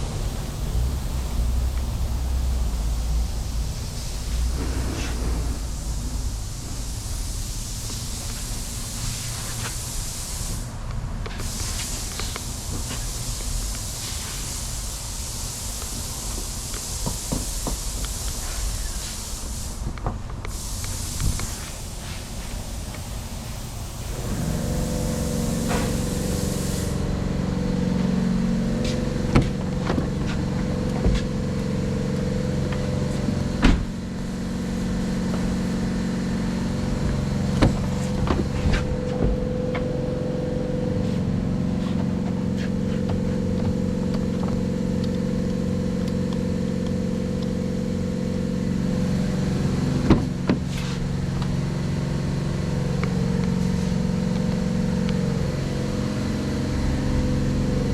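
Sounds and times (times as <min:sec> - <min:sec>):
engine idling: 0:00.0 - 0:17.0, 0:20.5 - 0:57.9.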